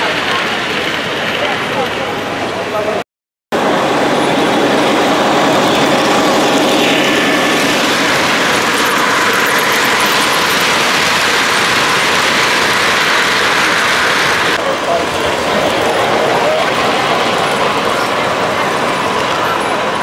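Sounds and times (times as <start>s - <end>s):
model train wheels rumbling: 3.6s - 20.0s.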